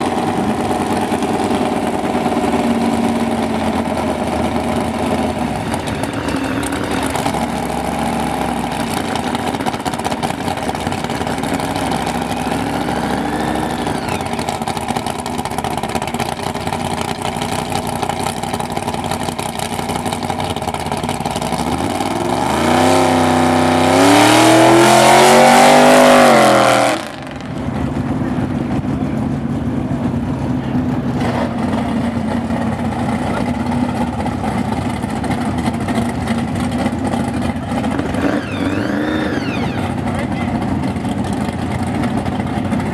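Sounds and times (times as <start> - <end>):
car engines running: 0.0 - 42.9
engine accelerating hard: 0.0 - 42.9.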